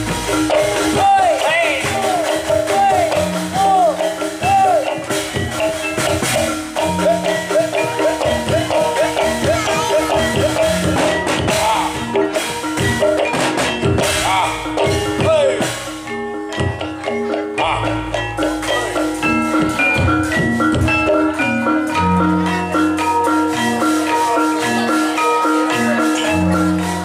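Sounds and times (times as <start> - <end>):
drum strokes: 0.0 - 27.0
metallophones ringing: 0.0 - 27.0
swooping melody line: 0.0 - 27.0.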